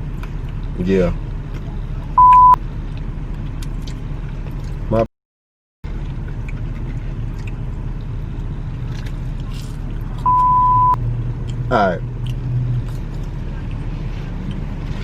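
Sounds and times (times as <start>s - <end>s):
car engine and road noise: 0.0s - 5.1s, 5.9s - 15.0s.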